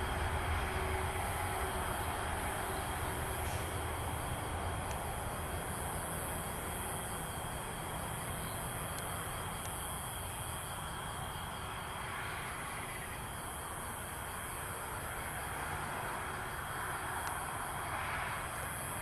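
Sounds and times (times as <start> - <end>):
constant high hiss: 0.0 - 19.0.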